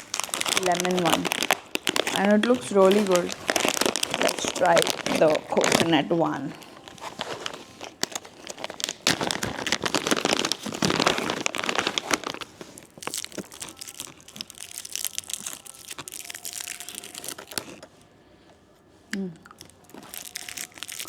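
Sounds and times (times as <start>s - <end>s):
plastic wrapper crinkling and tearing: 0.0s - 18.1s, 19.5s - 21.0s.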